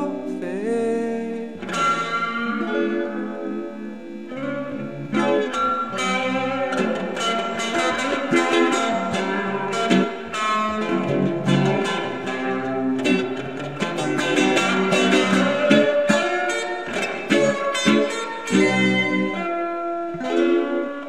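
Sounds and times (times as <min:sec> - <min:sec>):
bass guitar line: 0:00.0 - 0:21.0
guitars strumming: 0:00.0 - 0:21.0.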